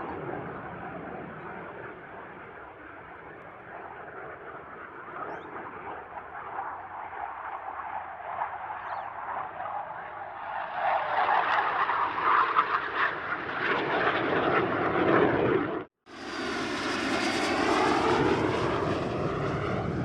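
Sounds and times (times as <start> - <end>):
distant aircraft rushing: 0.0 - 20.0.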